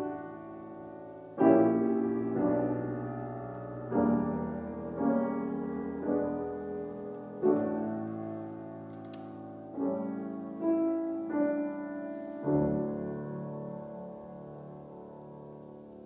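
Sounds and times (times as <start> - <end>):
piano chords ringing: 0.0 - 16.0.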